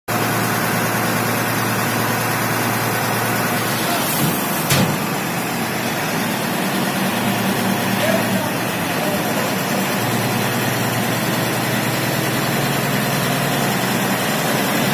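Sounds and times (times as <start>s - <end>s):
diesel lorry engine running: 0.1s - 14.9s.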